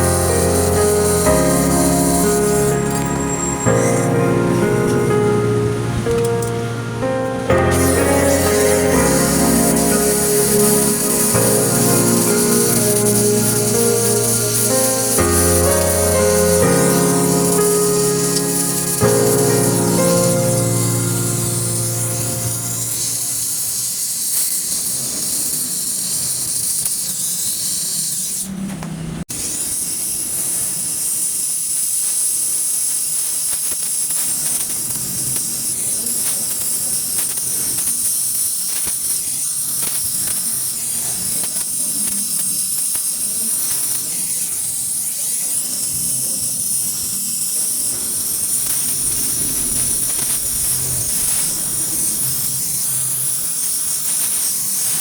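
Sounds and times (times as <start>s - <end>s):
welding torch flame hissing: 0.0s - 28.6s, 29.3s - 55.0s.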